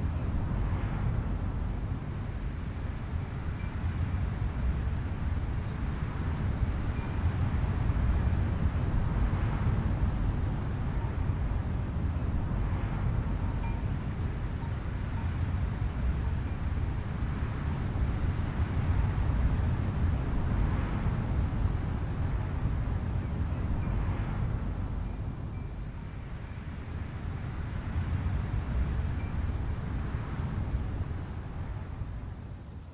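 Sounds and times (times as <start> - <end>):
wind rumble: 0.0 - 32.9
insect chirping: 1.2 - 32.9.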